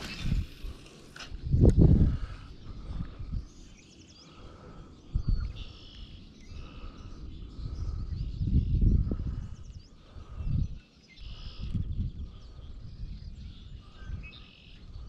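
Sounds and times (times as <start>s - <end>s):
low rumbling microphone bursts: 0.0s - 3.6s, 4.3s - 14.2s
songbirds chirping and singing: 0.0s - 15.0s.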